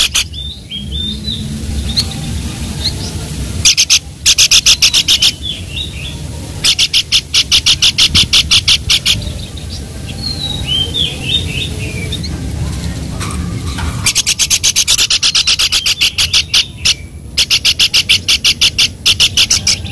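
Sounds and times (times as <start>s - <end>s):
bird calling sharp notes: 0.0s - 12.4s, 13.3s - 19.9s.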